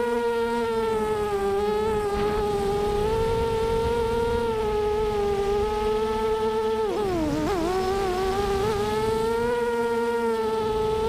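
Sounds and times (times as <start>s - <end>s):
drone motors buzzing whine: 0.0s - 11.0s
wind and frame vibration rumble: 0.0s - 11.0s.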